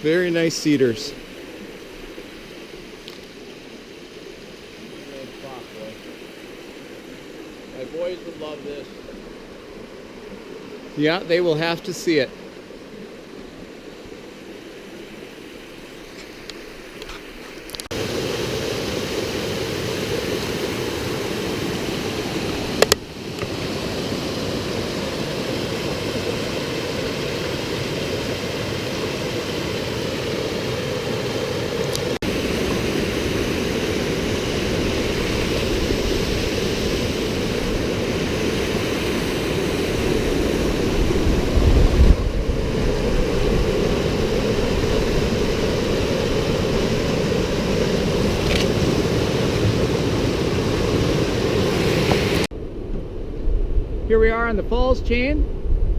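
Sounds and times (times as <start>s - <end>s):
water rushing: 0.0s - 52.6s.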